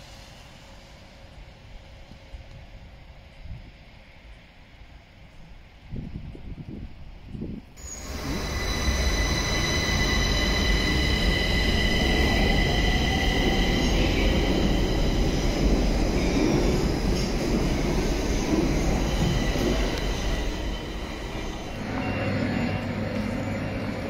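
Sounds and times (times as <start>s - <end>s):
train high whine: 0.0s - 5.9s, 7.8s - 24.0s
train wheels rumbling on rail: 0.0s - 24.0s.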